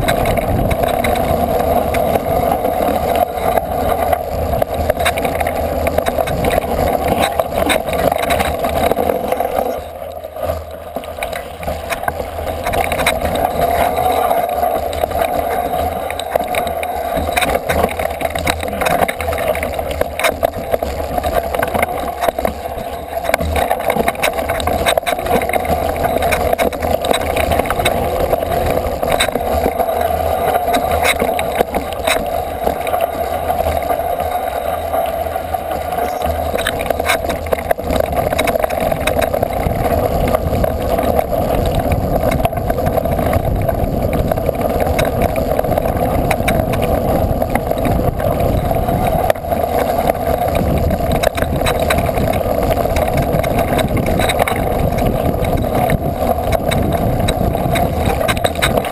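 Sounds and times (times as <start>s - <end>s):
bike riding on stony trail: 0.0s - 58.9s.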